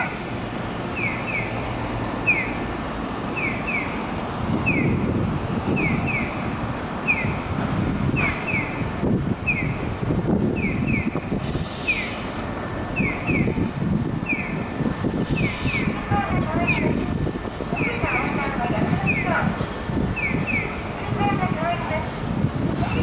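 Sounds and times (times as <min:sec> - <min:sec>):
street and tram noise: 0:00.0 - 0:23.0.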